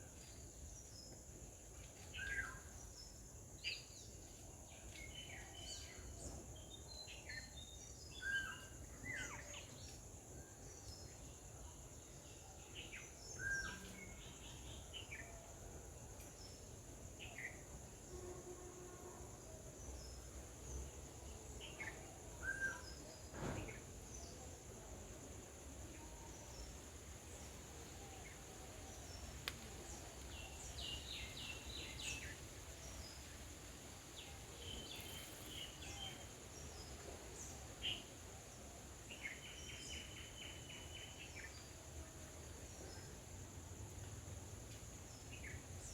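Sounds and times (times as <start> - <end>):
insect drone: 5.6 - 45.9.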